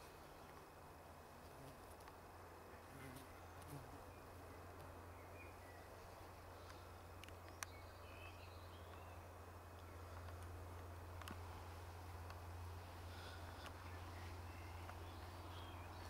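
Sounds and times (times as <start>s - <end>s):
steady low hum: 0.0s - 16.0s
distant bird chirps: 2.9s - 16.0s.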